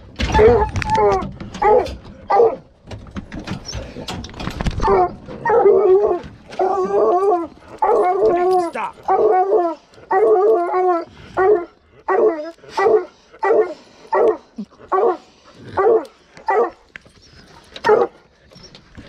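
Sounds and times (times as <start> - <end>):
hounds bawling and howling: 0.1 - 2.8, 3.6 - 19.0.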